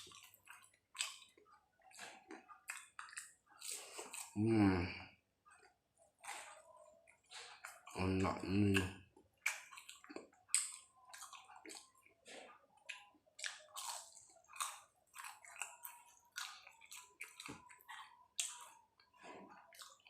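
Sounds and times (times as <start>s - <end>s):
chewing and mouth smacking: 0.0s - 4.4s, 5.5s - 20.0s.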